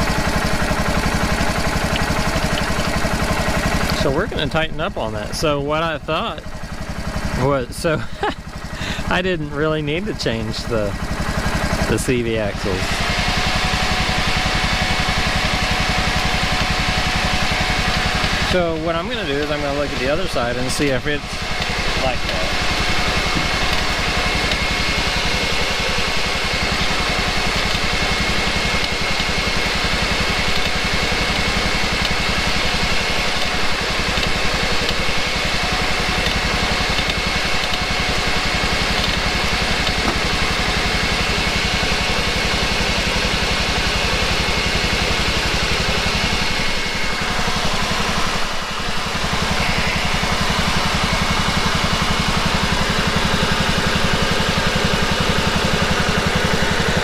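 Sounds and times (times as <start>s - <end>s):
motor droning: 0.0s - 57.0s.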